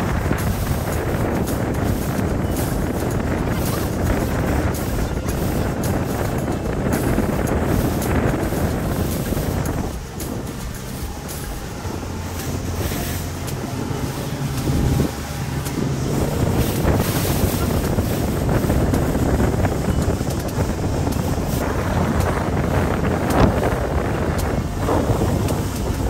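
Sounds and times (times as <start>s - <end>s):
motorboat engine drone: 0.0s - 26.0s
wind buffeting microphone: 0.0s - 26.0s.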